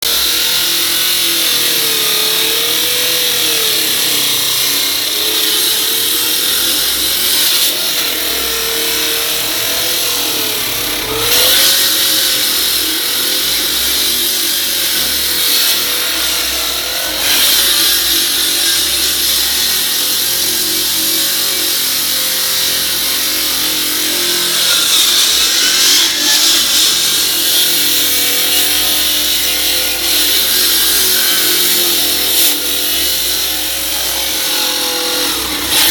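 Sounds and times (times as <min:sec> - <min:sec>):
blade grinding through concrete: 0:00.0 - 0:35.9
concrete saw engine drone: 0:00.0 - 0:35.9.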